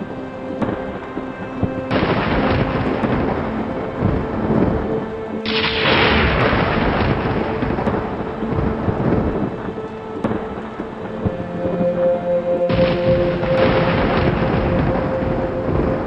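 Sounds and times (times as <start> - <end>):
crackling noise: 0.0 - 16.0
steady rain: 0.0 - 16.0
rumbling thunder: 1.8 - 11.8, 12.7 - 16.0.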